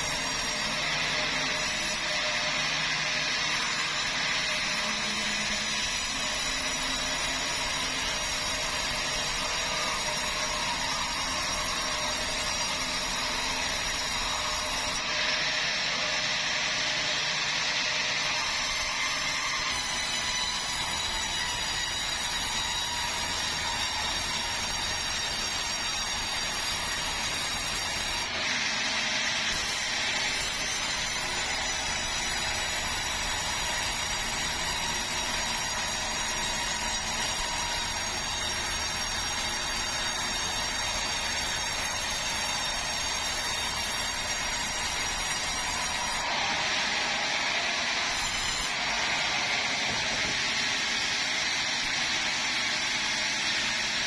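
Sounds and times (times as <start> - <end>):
sawmill saw running: 0.0 - 54.0.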